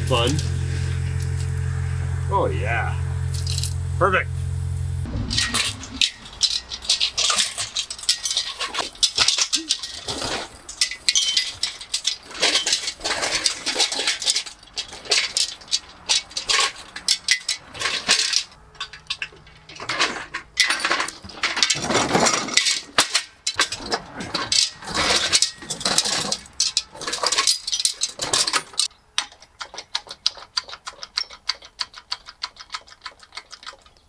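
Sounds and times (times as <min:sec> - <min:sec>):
chain and steel frame rattling: 0:00.0 - 0:01.6, 0:03.3 - 0:03.8, 0:05.1 - 0:34.0.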